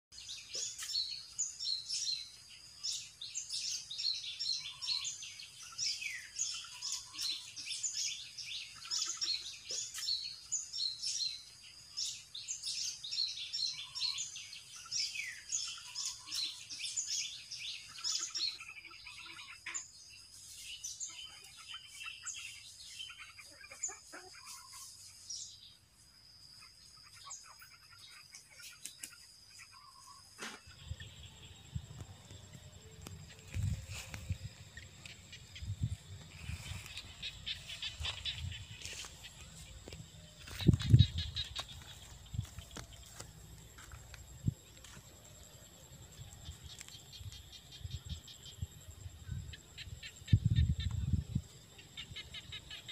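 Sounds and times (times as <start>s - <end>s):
small birds chirping: 0.1s - 52.9s.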